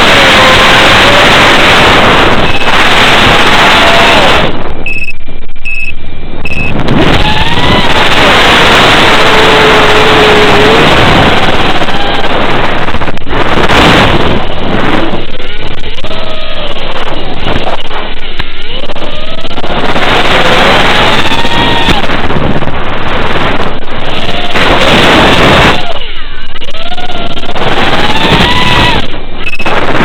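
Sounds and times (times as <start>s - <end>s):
quadcopter motor whine: 0.0s - 4.9s, 6.5s - 30.0s
wind noise: 0.0s - 30.0s.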